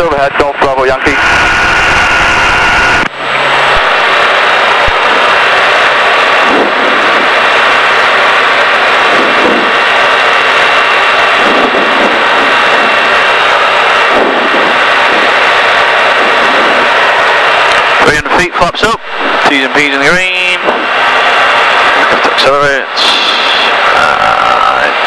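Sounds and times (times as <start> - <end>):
aircraft engine and propeller: 0.0 - 25.0.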